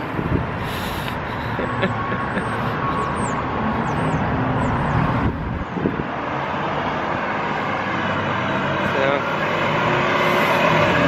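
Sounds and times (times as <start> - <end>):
outdoor rumble: 0.0 - 11.0.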